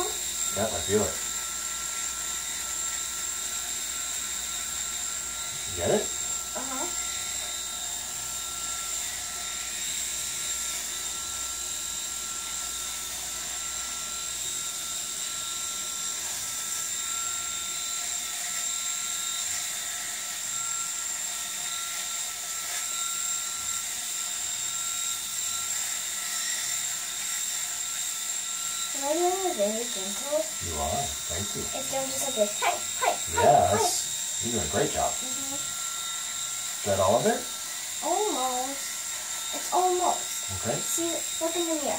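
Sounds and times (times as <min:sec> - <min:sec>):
electric shaver whining: 0:00.0 - 0:41.9.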